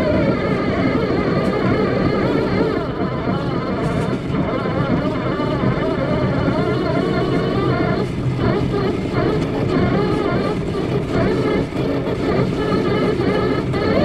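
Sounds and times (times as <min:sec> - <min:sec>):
motors running: 0:00.0 - 0:14.0.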